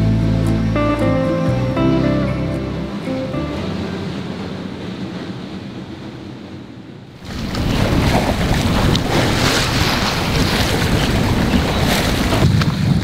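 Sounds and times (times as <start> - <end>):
water rushing along boat hull: 0.0 - 13.0
wind buffeting microphone: 0.0 - 13.0.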